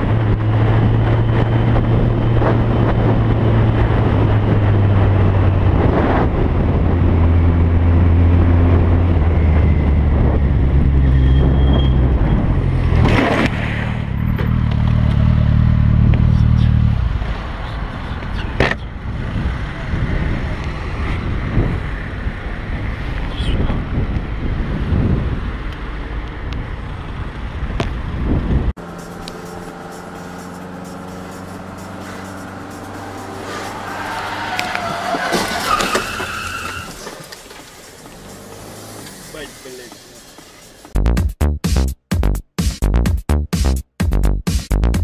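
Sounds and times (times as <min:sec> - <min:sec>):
vehicle engine droning: 0:00.0 - 0:41.2.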